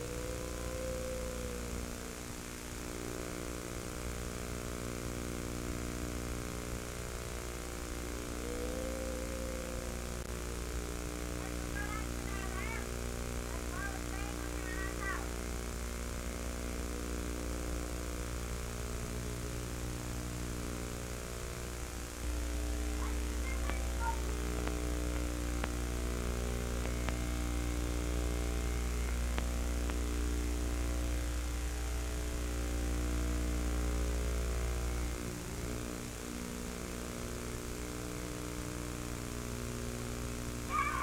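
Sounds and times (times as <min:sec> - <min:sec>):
steady droning hum: 0:00.0 - 0:41.0.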